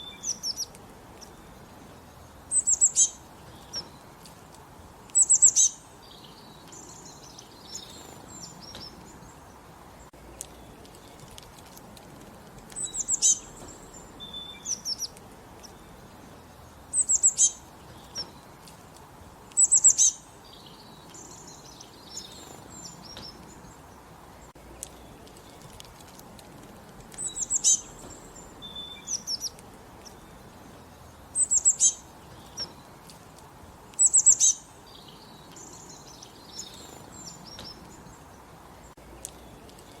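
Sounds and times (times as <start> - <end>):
faint background hiss: 0.0 - 40.0
songbirds trilling: 0.0 - 40.0.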